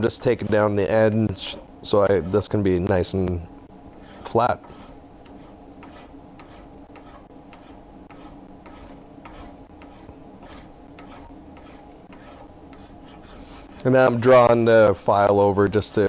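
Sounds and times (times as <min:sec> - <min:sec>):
hand file rasping on steel: 0:00.0 - 0:16.0.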